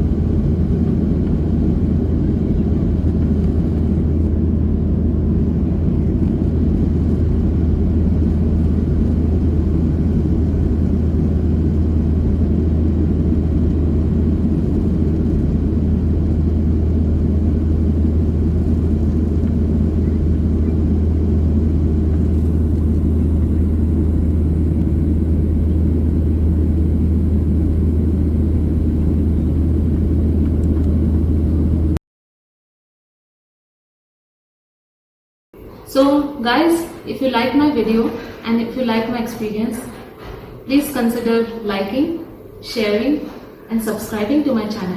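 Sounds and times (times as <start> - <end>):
jet airliner cabin rumble: 0.0 - 32.0, 35.6 - 44.9.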